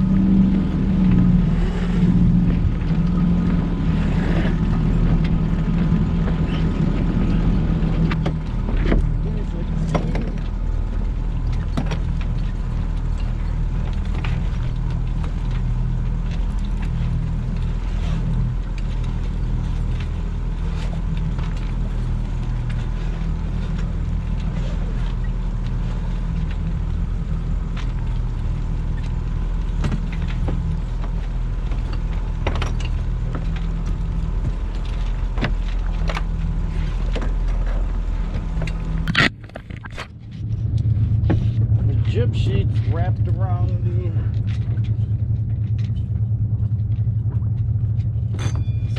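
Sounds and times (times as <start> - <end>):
boat engine running: 0.0 - 48.9
rigging clicks and rattles: 0.0 - 48.9.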